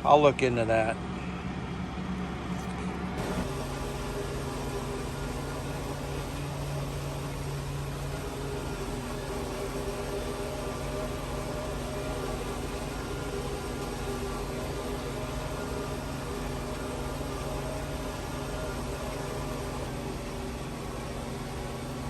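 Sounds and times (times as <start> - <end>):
steady machine hum: 0.0 - 22.0
tractor engine drone: 0.0 - 22.0.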